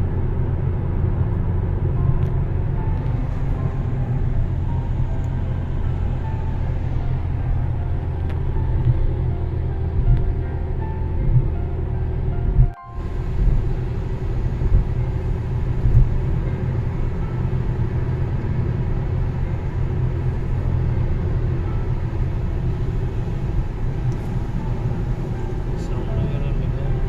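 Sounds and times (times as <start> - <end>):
car driving road drone: 0.0 - 27.0.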